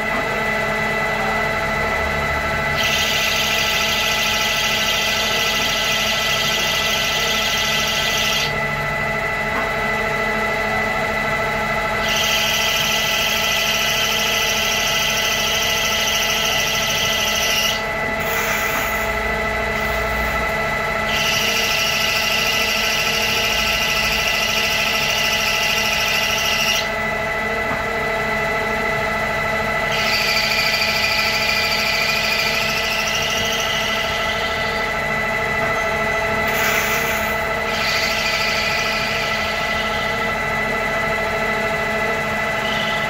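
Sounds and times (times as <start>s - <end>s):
lathe spindle humming: 0.0s - 43.0s.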